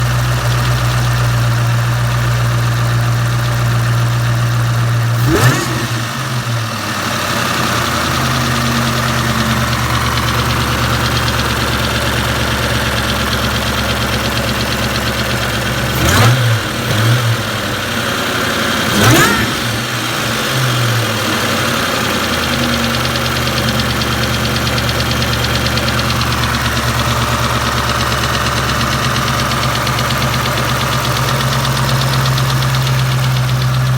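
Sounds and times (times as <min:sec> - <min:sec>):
car engine idling and revving: 0:00.0 - 0:33.9
engine ticking: 0:00.0 - 0:33.9.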